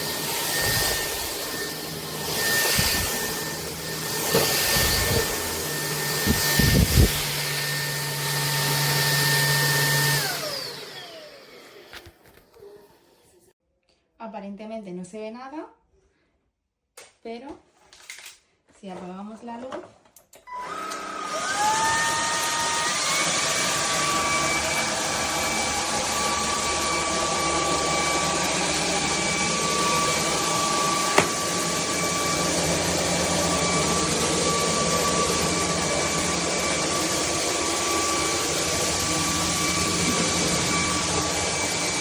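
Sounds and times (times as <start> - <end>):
vacuum motor whining: 0.0 - 12.7, 20.5 - 42.0.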